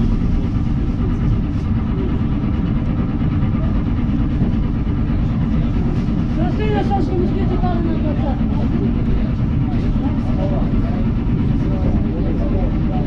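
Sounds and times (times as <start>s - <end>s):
electric train running rumble: 0.0s - 13.0s.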